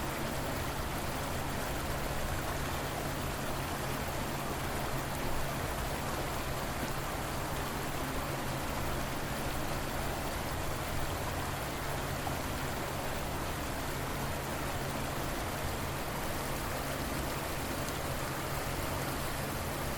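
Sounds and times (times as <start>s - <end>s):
river water flowing: 0.0s - 19.9s.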